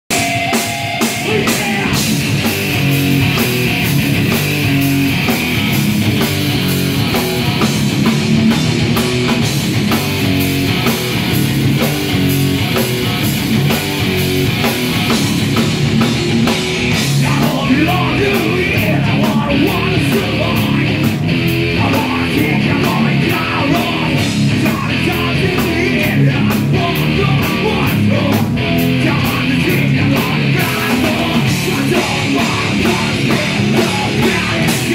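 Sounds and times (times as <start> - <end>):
bass guitar: 0.0 - 34.9
distorted electric guitar: 0.0 - 34.9
fast drumming on drum kit: 0.0 - 34.9.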